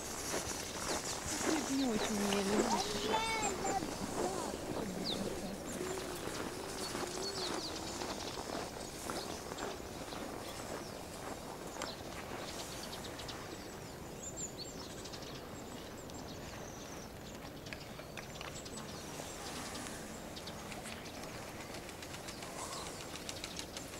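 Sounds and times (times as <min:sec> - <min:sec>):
small birds calling: 0:00.0 - 0:23.9.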